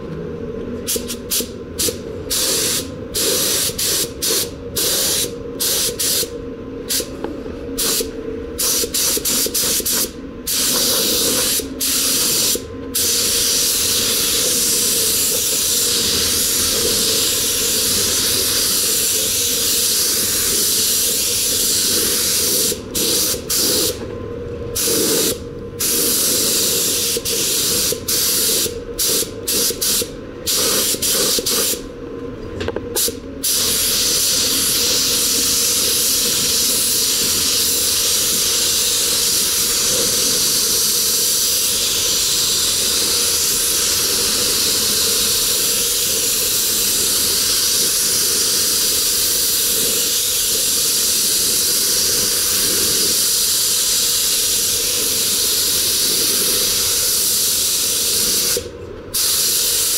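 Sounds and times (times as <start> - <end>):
paint spray gun hissing: 0.9 - 6.3, 7.8 - 24.0, 24.8 - 31.8, 33.0 - 58.6, 59.2 - 59.9.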